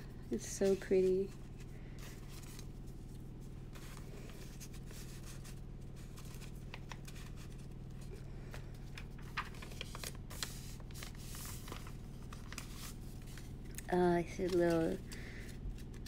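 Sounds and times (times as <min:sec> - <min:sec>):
steady low hum: 0:00.0 - 0:16.0
paper rustling: 0:00.4 - 0:16.0.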